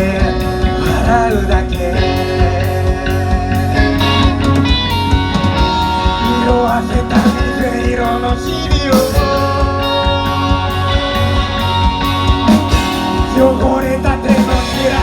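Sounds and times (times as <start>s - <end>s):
bass guitar: 0.0s - 15.0s
drums steady beat: 0.0s - 15.0s
lead guitar bending lines: 0.0s - 15.0s.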